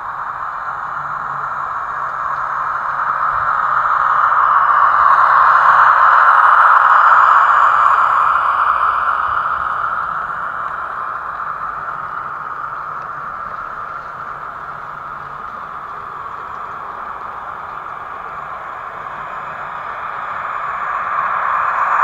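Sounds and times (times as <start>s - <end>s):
model train rolling rumble: 0.0s - 22.0s.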